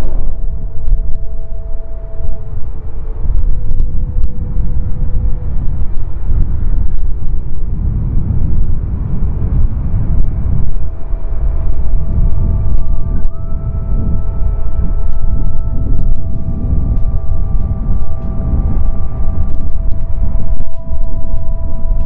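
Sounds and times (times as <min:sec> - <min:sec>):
faint jet whine: 0:00.0 - 0:22.0
jet engine rumble: 0:00.0 - 0:22.0.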